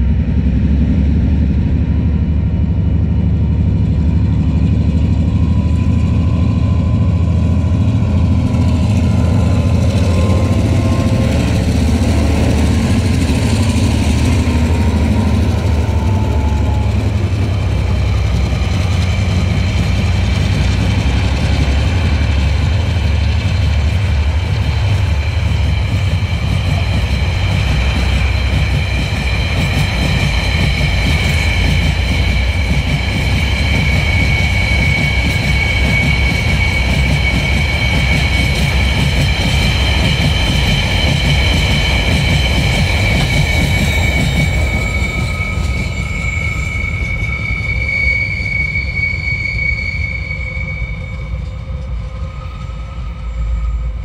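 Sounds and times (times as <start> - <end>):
diesel locomotive engine drone: 0.0 - 54.0
high wheel squeal: 5.6 - 54.0.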